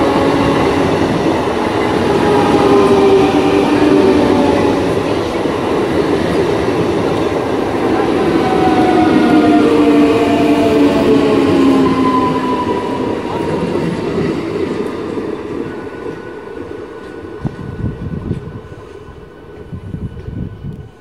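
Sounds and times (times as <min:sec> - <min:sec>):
train traction whine: 0:00.0 - 0:21.0.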